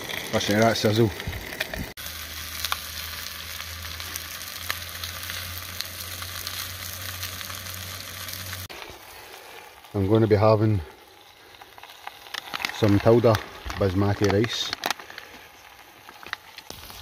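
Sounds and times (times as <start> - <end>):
chicken sizzling on a grill pan: 0.0 - 17.0.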